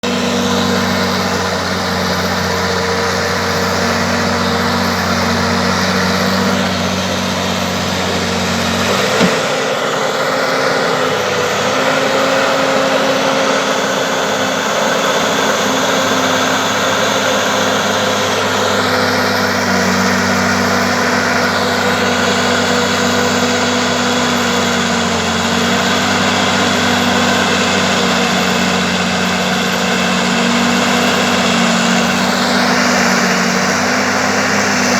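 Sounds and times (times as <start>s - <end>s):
bulldozer engine running: 0.0s - 34.9s.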